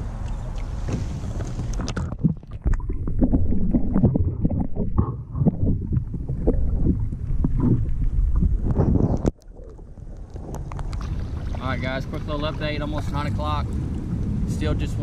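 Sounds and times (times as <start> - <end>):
underwater sloshing and knocking: 0.0 - 15.0
water splashing: 0.0 - 15.0.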